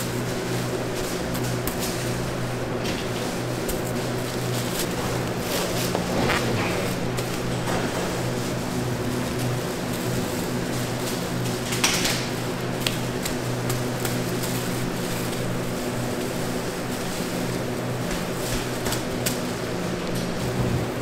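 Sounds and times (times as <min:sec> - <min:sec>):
bakery machinery humming: 0:00.0 - 0:21.0.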